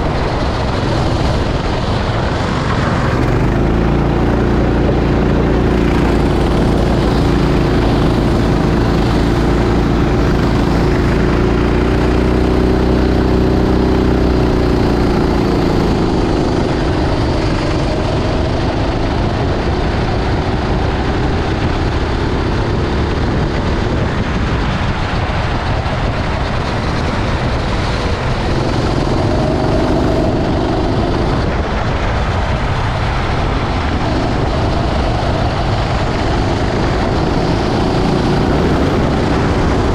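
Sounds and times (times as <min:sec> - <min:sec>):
kart engine revving: 0:00.0 - 0:24.5, 0:25.2 - 0:39.9
rushing noise: 0:00.0 - 0:39.9.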